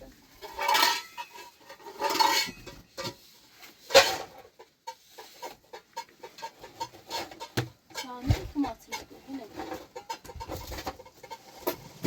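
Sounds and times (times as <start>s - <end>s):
pots and utensils clattering: 0.0s - 12.0s.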